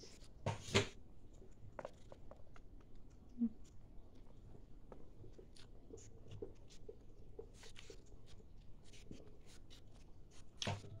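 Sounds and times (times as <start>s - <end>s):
faint eating clicks and scrapes: 0.0s - 11.0s.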